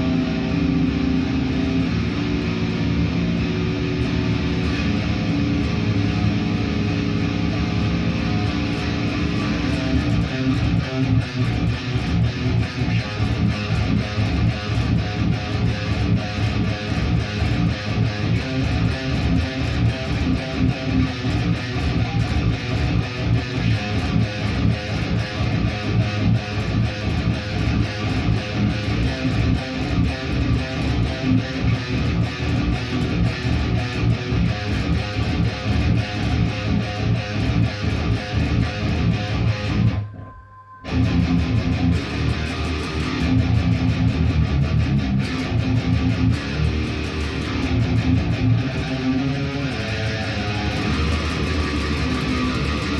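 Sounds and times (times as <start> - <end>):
guitar playing rapid notes: 0.0 - 52.9.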